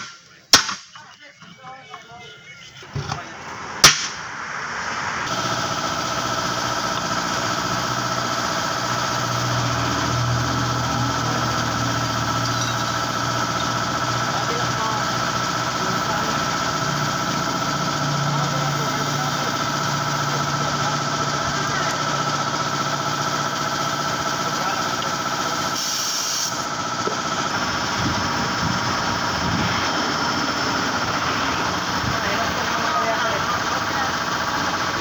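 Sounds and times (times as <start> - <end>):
motor running with whine: 4.7 - 35.0.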